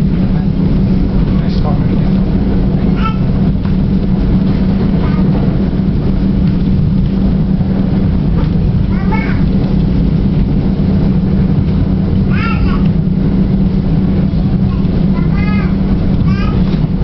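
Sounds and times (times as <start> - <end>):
constant low hum: 0.0 - 17.0
train wheels rumbling on rail: 0.0 - 17.0.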